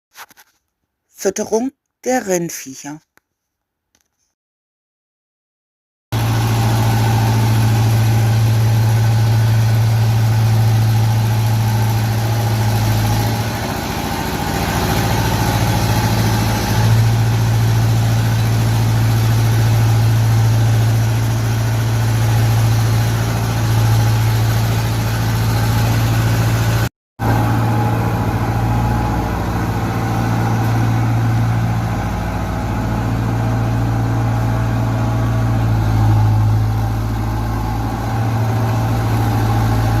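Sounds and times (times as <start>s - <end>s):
tractor diesel engine droning: 6.2s - 40.0s.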